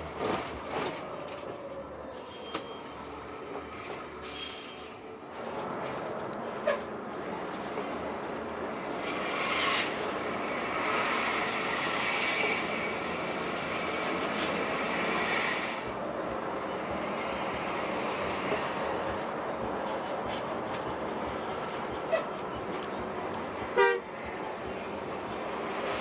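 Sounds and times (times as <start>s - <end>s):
moving vehicle running noise: 5.0s - 26.0s.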